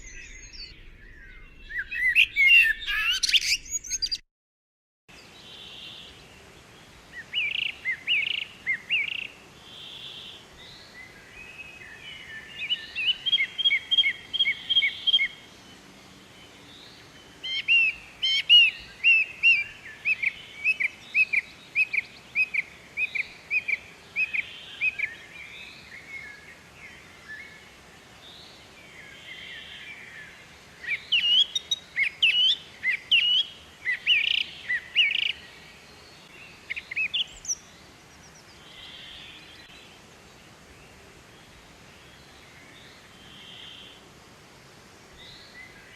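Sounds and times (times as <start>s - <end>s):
songbird chirping: 0.0s - 4.2s, 5.1s - 45.9s.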